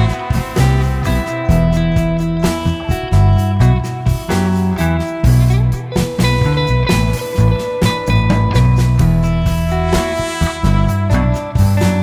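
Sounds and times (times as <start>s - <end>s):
uplifting guitar ballad music: 0.0s - 12.0s.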